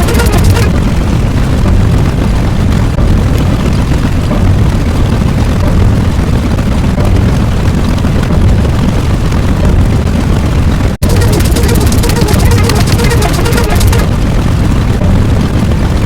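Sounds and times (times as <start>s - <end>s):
deep loud rumble: 0.0s - 16.0s.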